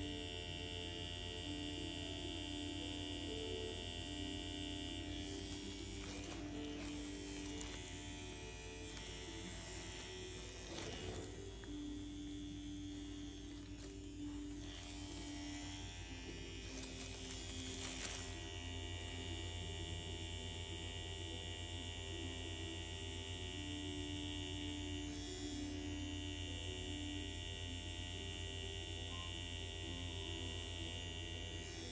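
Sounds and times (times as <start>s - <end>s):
soft background music: 0.0s - 31.9s
tattoo machine buzzing: 0.0s - 31.9s.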